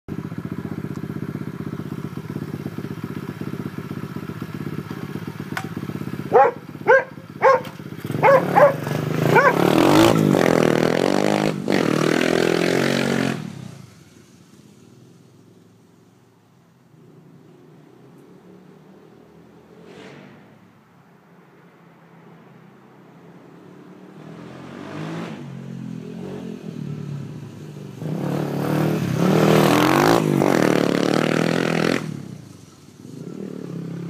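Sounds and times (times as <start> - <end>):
pit bike engine idling and revving: 0.1 - 34.0.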